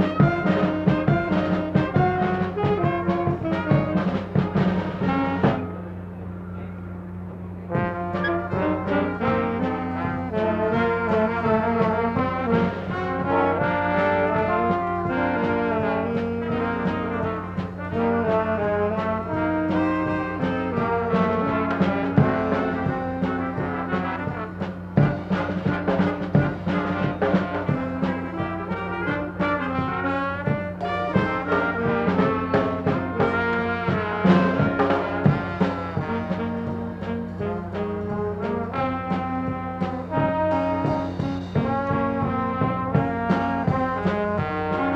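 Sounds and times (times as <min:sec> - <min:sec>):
brass band playing: 0:00.0 - 0:44.9.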